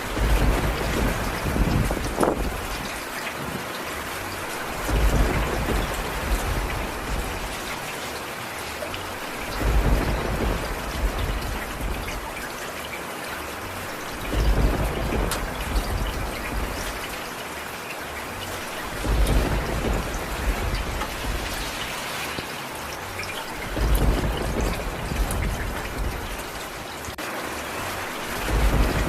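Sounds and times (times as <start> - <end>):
low rumbles: 0.0 - 3.2, 4.0 - 8.0, 9.0 - 12.6, 13.6 - 17.4, 18.2 - 27.2, 27.9 - 29.0
steady rain: 0.0 - 29.0.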